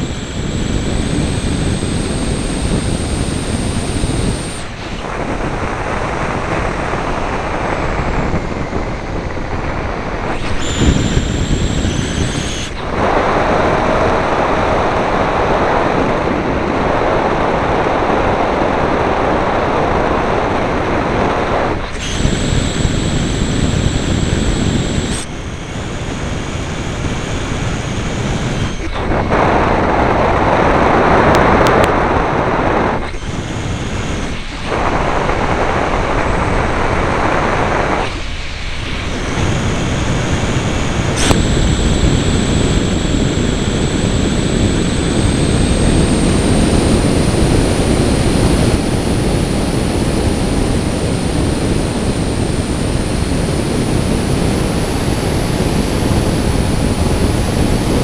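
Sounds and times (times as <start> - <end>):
thin high whine: 0.0 - 58.0
wind rushing over microphone: 0.0 - 58.0.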